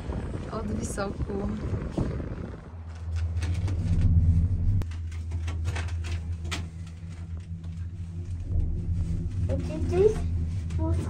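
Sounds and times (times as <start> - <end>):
gondola cabin hum: 0.0 - 11.0.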